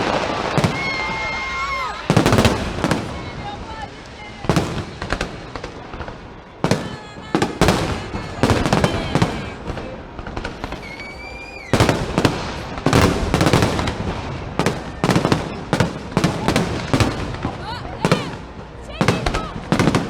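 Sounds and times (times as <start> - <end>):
fireworks bursting with echoes: 0.0 - 20.0.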